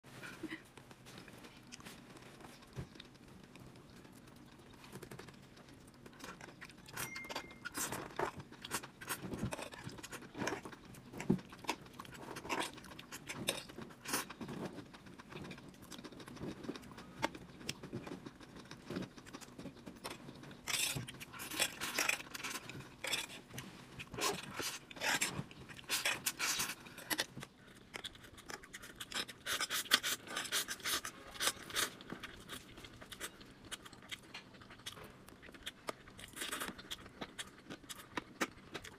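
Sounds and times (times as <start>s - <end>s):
noodles slurped and chewed: 0.3s - 38.9s.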